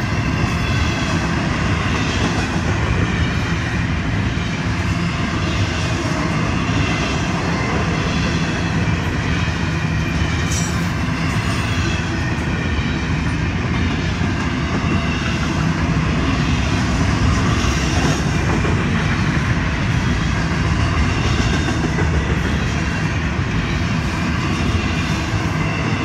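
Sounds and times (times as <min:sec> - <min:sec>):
freight train wheels on rails: 0:00.0 - 0:26.0.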